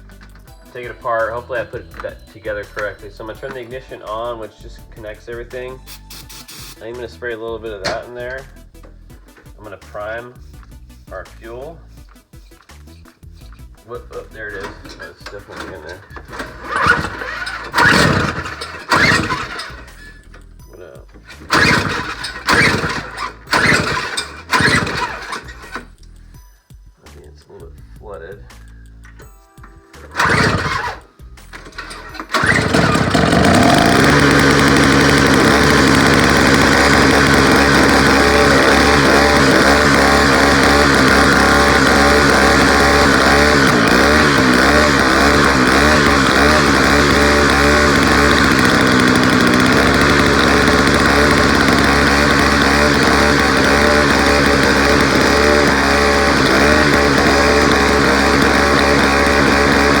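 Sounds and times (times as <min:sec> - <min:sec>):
two-stroke engine running: 0:00.0 - 0:09.0, 0:12.4 - 0:20.5, 0:21.2 - 0:26.0, 0:30.1 - 1:00.0.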